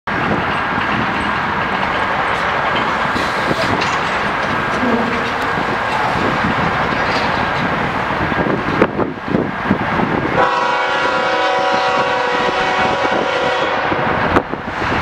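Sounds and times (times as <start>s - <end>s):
distant approaching freight train: 0.1s - 15.0s.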